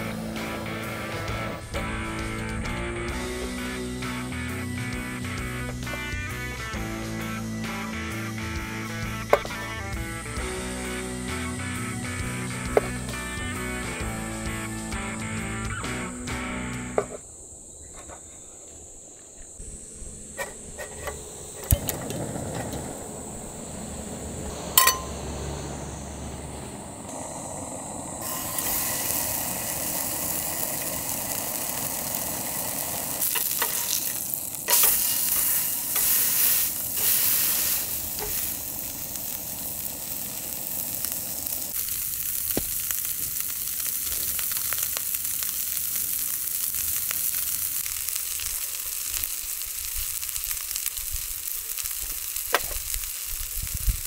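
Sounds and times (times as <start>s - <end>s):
food frying and sizzling: 0.0s - 17.2s, 20.3s - 54.0s.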